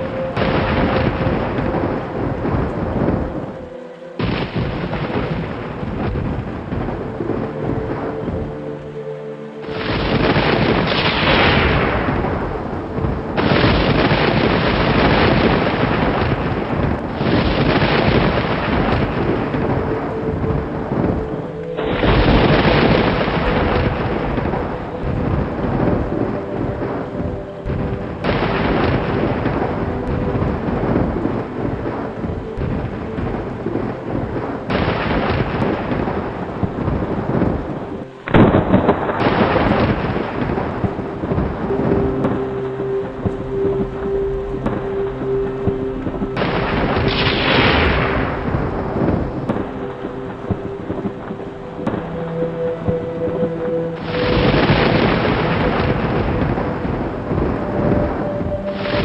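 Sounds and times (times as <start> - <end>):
thunder rumbling: 0.0 - 9.0, 9.6 - 59.0
heavy rain: 0.0 - 59.0.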